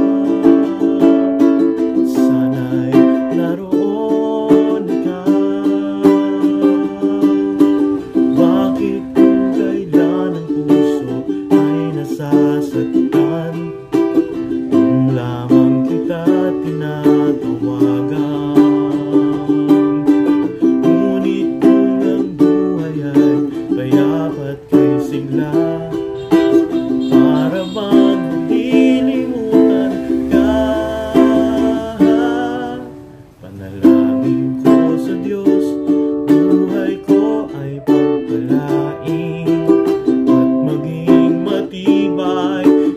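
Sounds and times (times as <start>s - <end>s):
man singing: 0.0s - 42.9s
ukulele strumming chords: 0.0s - 42.9s.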